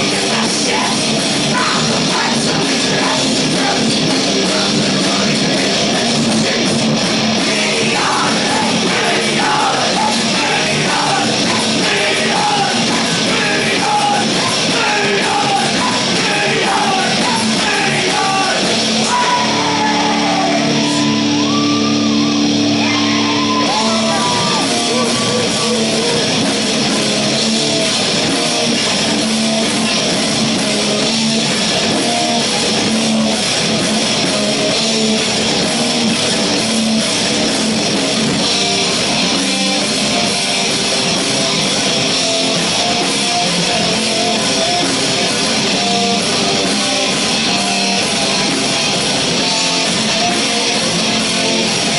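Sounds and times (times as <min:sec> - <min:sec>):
vocals: 0:00.0 - 0:21.9, 0:22.7 - 0:51.9
distorted electric guitars: 0:00.0 - 0:51.9
drums: 0:00.0 - 0:51.9.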